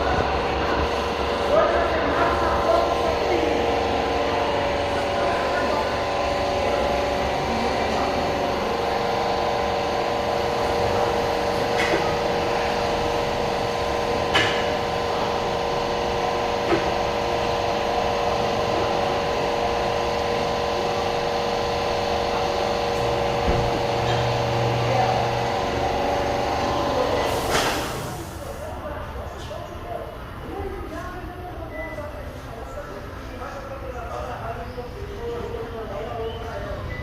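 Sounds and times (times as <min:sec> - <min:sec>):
machine hum with steady tones: 0:00.0 - 0:37.0.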